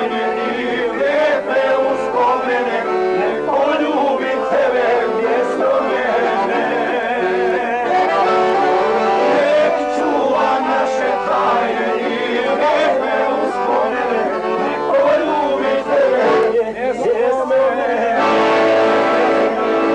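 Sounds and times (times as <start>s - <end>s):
man singing in wavering voice: 0.0s - 8.2s, 9.3s - 19.8s
accordion playing folk tune: 0.0s - 19.9s.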